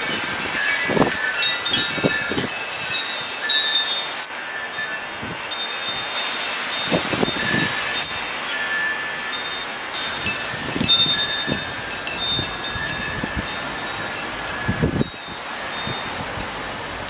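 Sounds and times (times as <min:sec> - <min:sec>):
wind gusts buffeting microphone: 0:00.0 - 0:09.0, 0:09.6 - 0:17.0
wind chimes ringing: 0:00.0 - 0:17.0.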